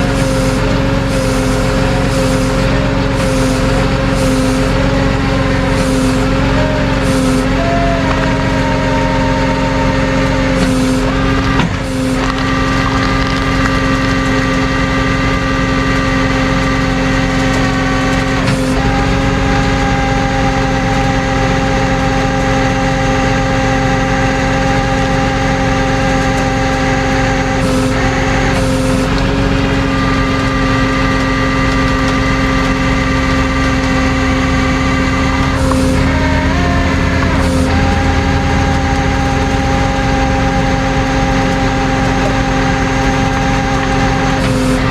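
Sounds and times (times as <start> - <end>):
truck engine running: 0.0 - 44.9
winch whine: 0.0 - 44.9.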